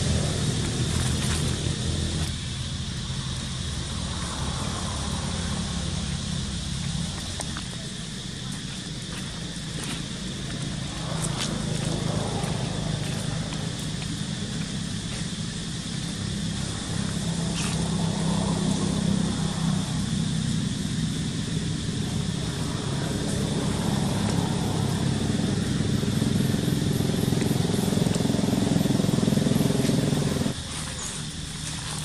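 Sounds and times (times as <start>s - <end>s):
motor engine humming: 0.0s - 32.0s.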